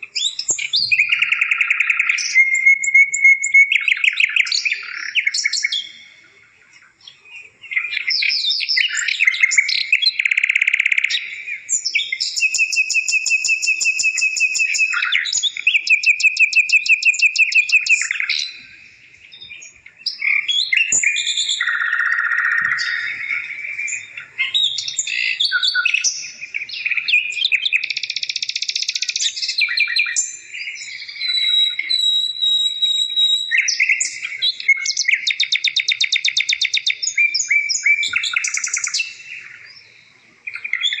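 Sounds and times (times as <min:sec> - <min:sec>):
bird trills: 0:00.0 - 0:41.0
small birds chirping and singing: 0:00.0 - 0:41.0.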